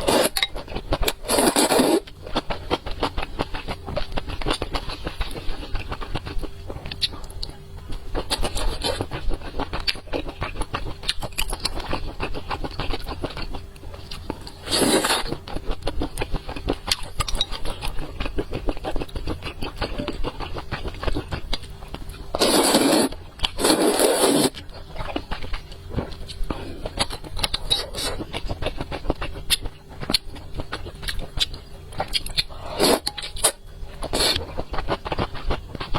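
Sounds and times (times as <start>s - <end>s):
crackling chewing: 0.0s - 35.9s.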